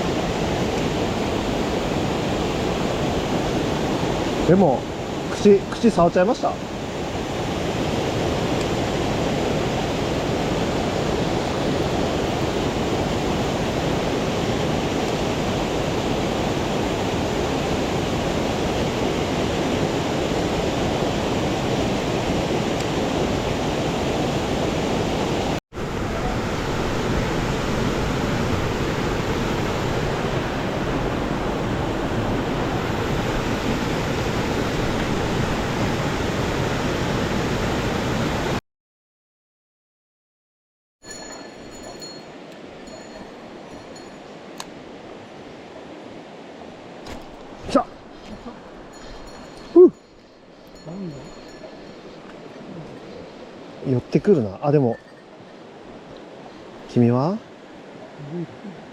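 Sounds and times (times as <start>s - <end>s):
stream rushing over rocks: 0.0s - 38.6s, 41.1s - 58.9s.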